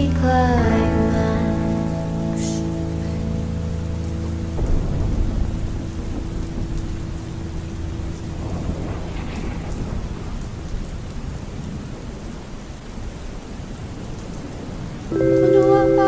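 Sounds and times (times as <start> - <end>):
steady rain falling: 0.0 - 16.0
low thunder rumbling: 3.1 - 16.0.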